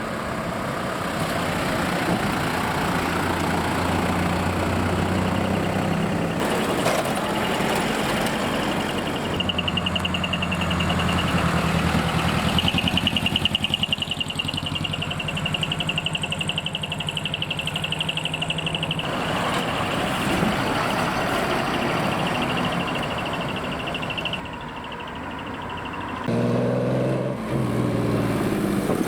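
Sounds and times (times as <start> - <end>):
diesel truck engine pulsing: 0.0 - 29.0.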